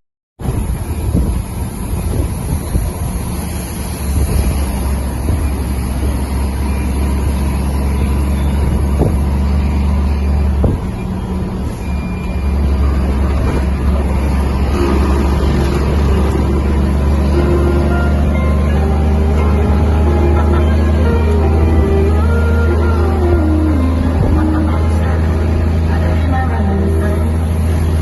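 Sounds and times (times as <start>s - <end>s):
diesel truck engine drone: 0.4s - 28.0s.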